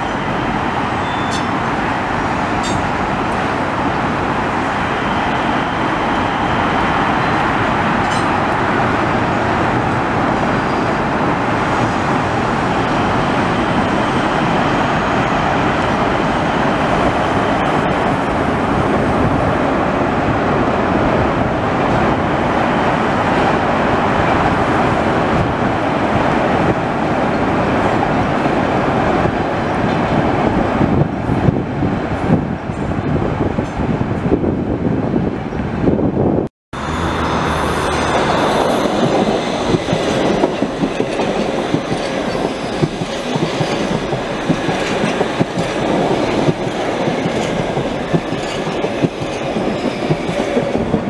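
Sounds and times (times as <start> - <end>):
city traffic noise: 0.0 - 51.0
distant trains rumbling on rails: 0.0 - 51.0.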